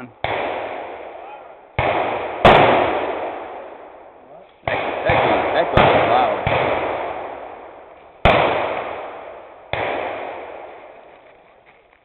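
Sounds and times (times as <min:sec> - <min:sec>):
gunshots with echoing decay: 0:00.0 - 0:11.8.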